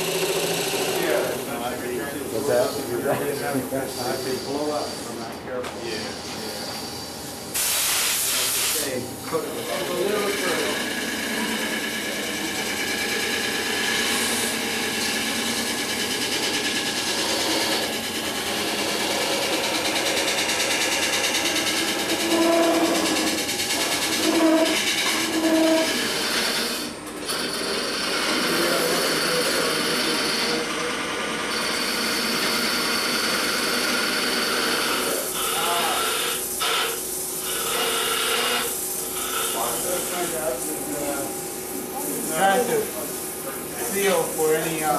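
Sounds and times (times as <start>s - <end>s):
tool cutting spinning wood: 0.0s - 5.3s, 8.2s - 44.9s
lathe motor hum: 0.0s - 5.4s, 9.0s - 44.9s
woodshop machinery running: 0.0s - 44.9s.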